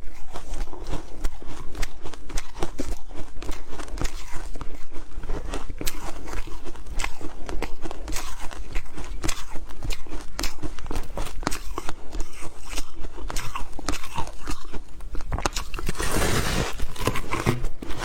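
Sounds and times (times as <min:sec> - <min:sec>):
ice crunched between teeth: 0:00.9 - 0:18.0.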